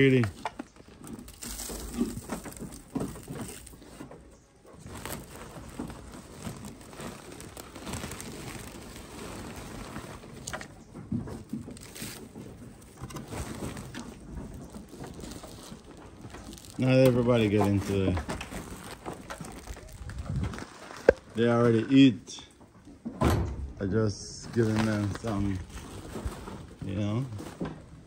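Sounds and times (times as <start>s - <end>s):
animals pattering and shuffling: 0.0s - 23.2s, 23.9s - 28.0s.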